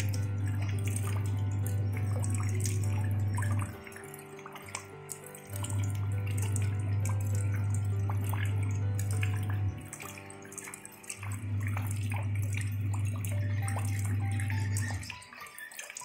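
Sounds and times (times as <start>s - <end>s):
raindrops splashing onto shallow water: 0.0s - 16.0s
soft background music with low drone: 0.0s - 16.0s.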